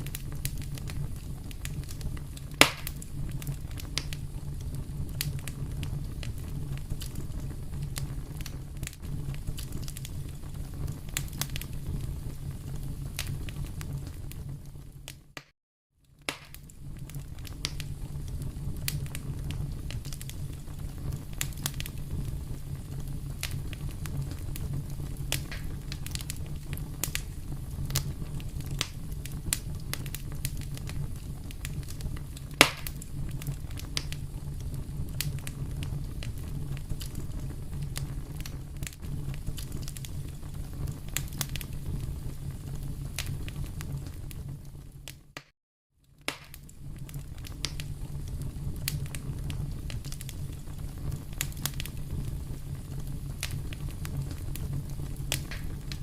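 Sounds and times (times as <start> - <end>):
fire rumbling in fireplace: 0.0 - 15.4, 16.0 - 45.4, 46.0 - 56.0
fire crackling and popping: 0.0 - 56.0.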